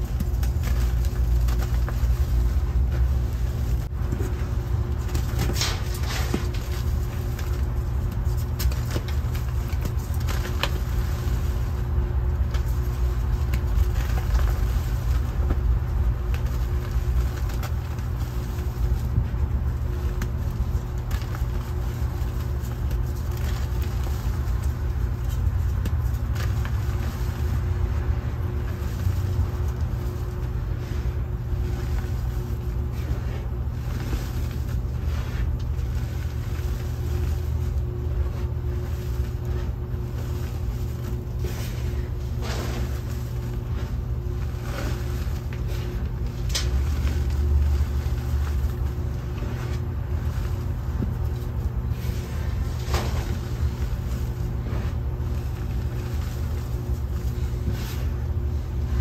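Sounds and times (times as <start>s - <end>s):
hands crumbling chalk: 0.0s - 59.0s
low background rumble: 0.0s - 59.0s.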